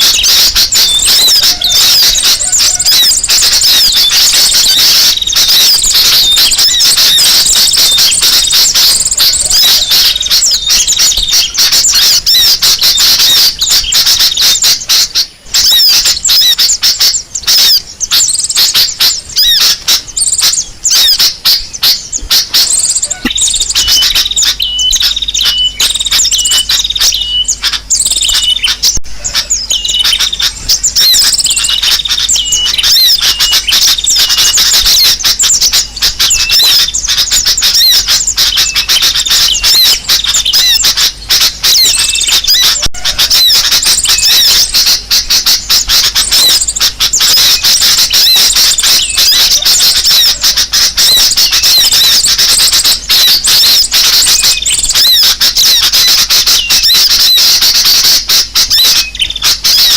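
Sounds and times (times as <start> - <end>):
many small birds chirping: 0.0 - 59.9.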